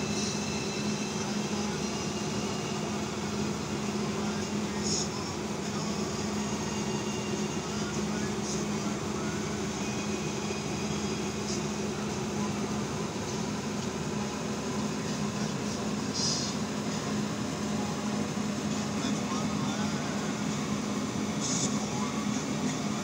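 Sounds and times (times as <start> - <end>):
machinery drone: 0.0 - 23.0.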